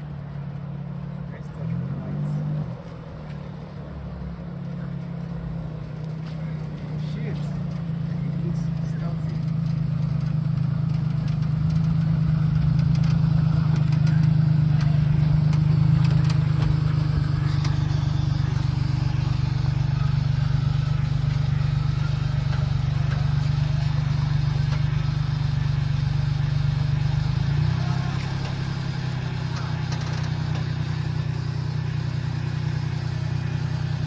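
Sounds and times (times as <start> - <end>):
three-cylinder engine running: 0.0 - 34.0.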